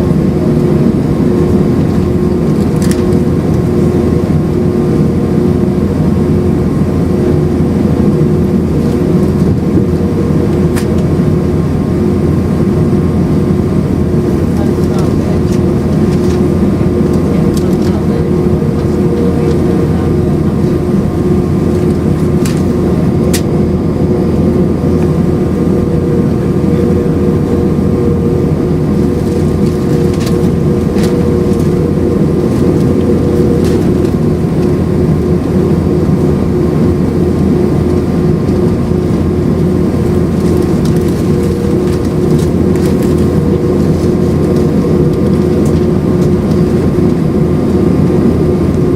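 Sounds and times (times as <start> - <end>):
jet engine cabin drone: 0.0 - 48.9.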